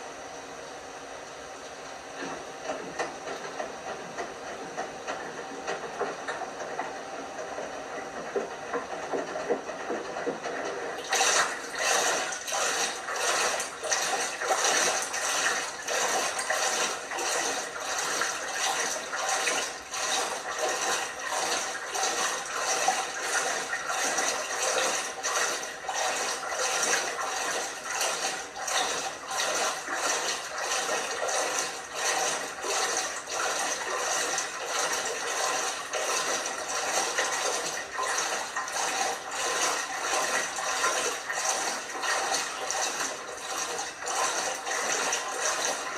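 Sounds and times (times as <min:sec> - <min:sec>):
water sloshing in washing machine: 0:00.0 - 0:45.9.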